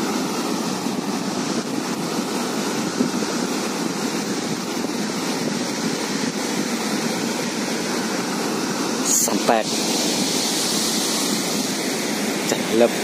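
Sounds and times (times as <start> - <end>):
floodwater rushing through gates: 0.0 - 13.0.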